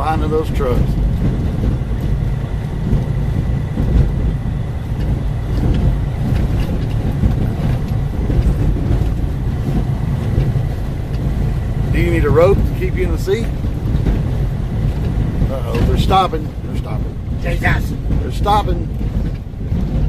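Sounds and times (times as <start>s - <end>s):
engine and road rumble in cabin: 0.0s - 20.0s.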